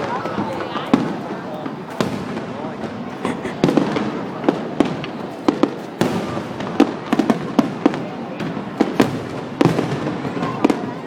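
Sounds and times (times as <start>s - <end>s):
fireworks banging and crackling: 0.0s - 11.0s.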